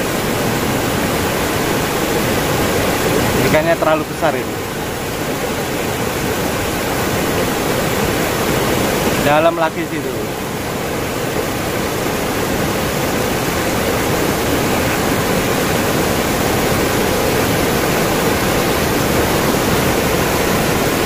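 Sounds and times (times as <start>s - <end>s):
fast-flowing river water: 0.0s - 21.0s.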